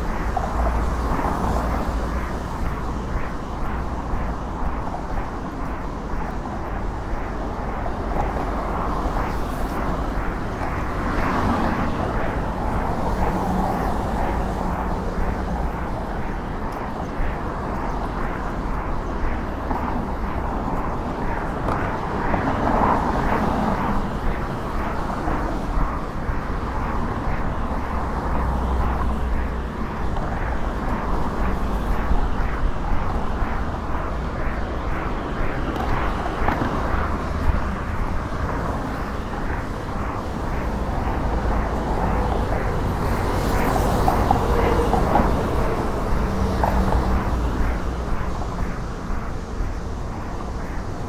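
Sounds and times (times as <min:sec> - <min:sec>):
cars passing: 0:00.0 - 0:51.0
low traffic rumble: 0:00.0 - 0:51.0.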